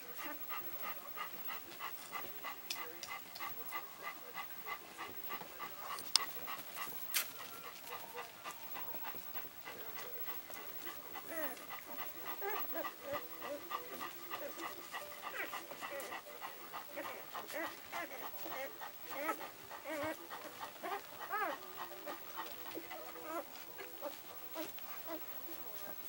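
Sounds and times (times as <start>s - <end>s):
puppies squeaking and grunting: 0.0s - 25.9s
dog panting: 0.0s - 26.0s.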